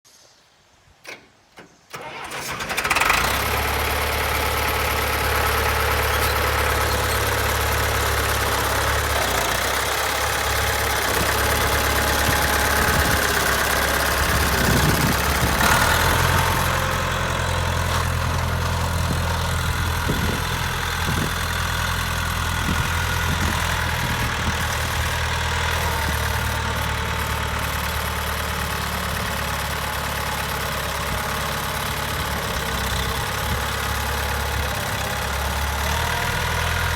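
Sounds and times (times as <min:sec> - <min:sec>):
tractor engine starting and running: 0:01.0 - 0:36.9.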